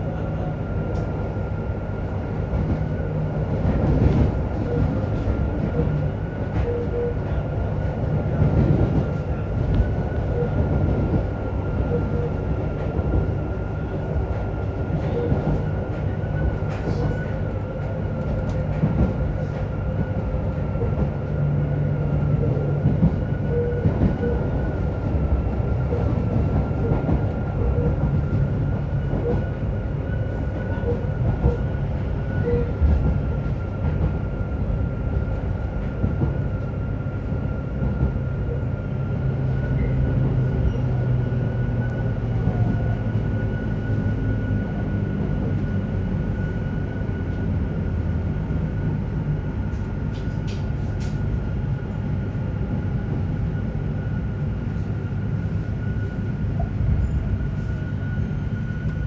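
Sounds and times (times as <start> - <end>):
train motors and wheels rumbling: 0.0 - 59.0.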